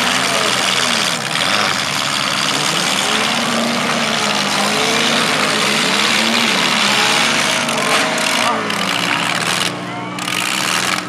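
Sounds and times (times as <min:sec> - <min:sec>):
car engines revving: 0:00.0 - 0:11.0
loud steady din: 0:00.0 - 0:11.0.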